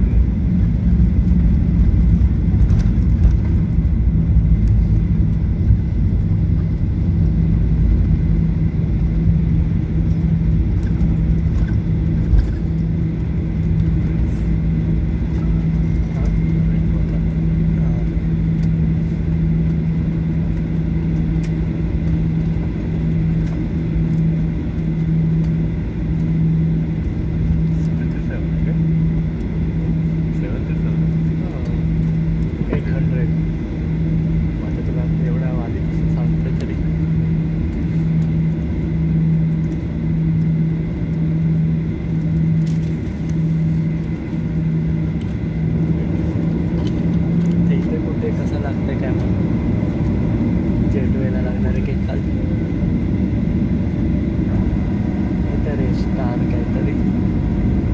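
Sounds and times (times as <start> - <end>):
constant low hum: 0.0 - 57.9
low rumble of engines and wheels: 0.0 - 57.9.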